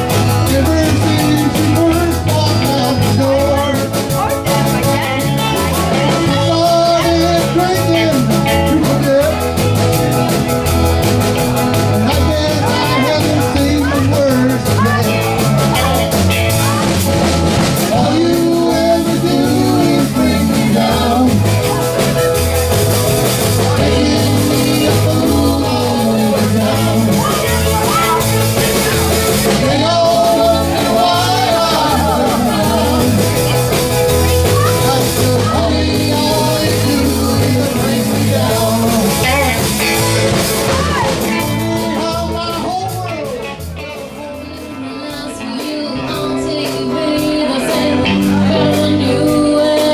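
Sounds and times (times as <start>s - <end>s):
drum kit beat: 0.0s - 49.9s
electric bass: 0.0s - 49.9s
electric guitars: 0.0s - 49.9s
person singing: 0.0s - 49.9s.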